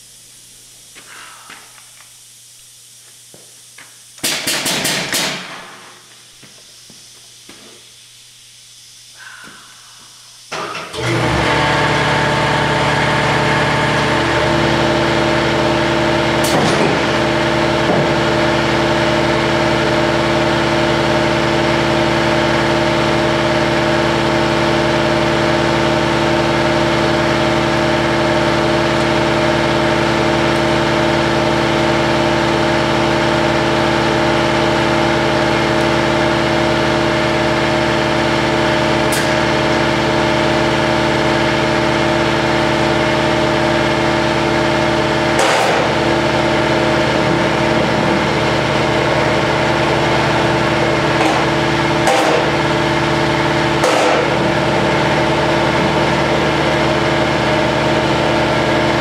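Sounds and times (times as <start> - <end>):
bending machine humming: 6.0 - 59.0.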